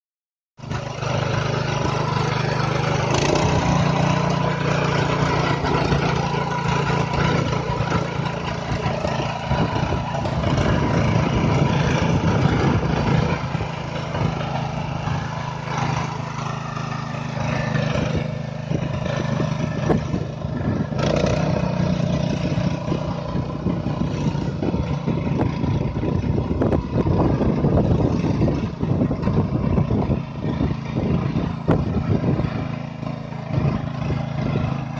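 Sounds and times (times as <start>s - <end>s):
rotary tines churning soil: 0.6s - 34.9s
small petrol engine running: 0.6s - 34.9s.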